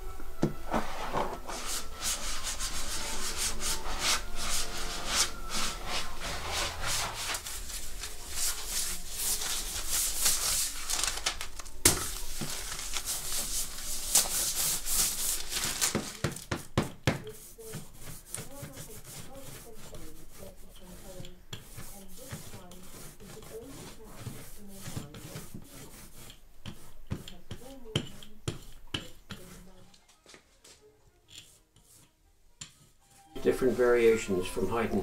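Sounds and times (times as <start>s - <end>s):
paper wiping printing plate: 0.5s - 29.8s, 32.7s - 35.0s.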